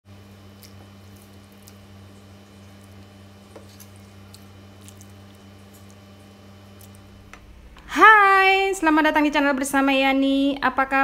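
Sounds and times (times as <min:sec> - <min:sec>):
low electrical hum: 0:00.1 - 0:11.0.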